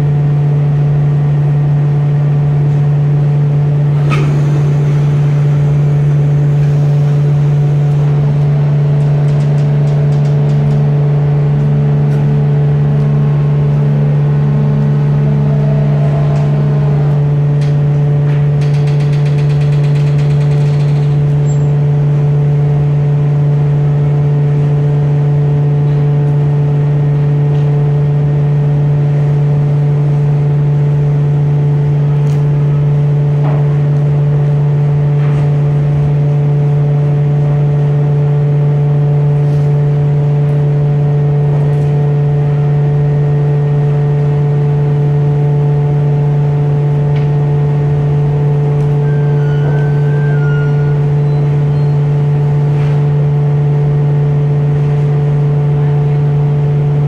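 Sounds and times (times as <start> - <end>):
higher machinery hum: 0.0 - 57.0
machinery low hum: 0.0 - 57.0.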